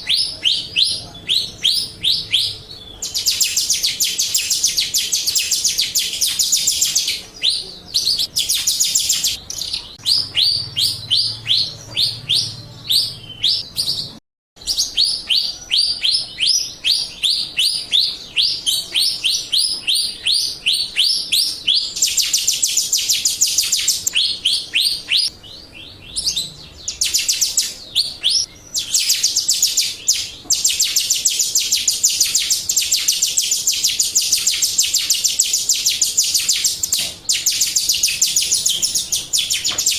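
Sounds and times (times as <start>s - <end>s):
starling calling in sharp chips: 0.0s - 39.9s.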